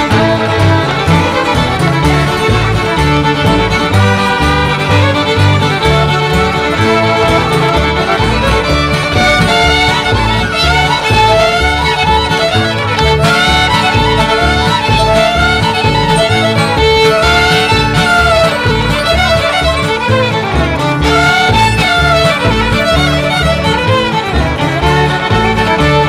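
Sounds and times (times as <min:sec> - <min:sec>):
acoustic guitar: 0:00.0 - 0:26.0
fiddles playing a dance tune: 0:00.0 - 0:26.0
upright bass: 0:00.0 - 0:26.0.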